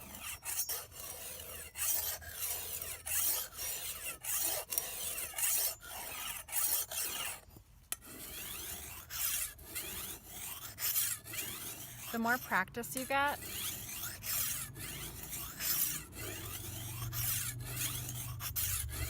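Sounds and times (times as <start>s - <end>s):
file scraping steel blade: 0.0s - 19.0s.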